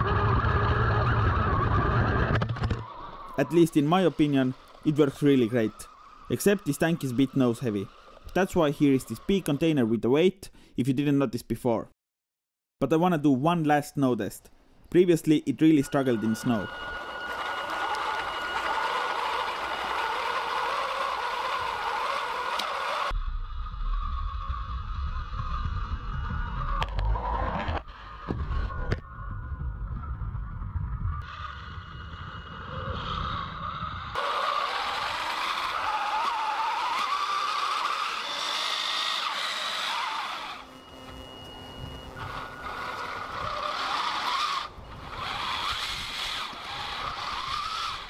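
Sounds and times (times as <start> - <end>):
electric motors whining: 0.0 - 9.8, 15.6 - 29.7, 31.0 - 48.0.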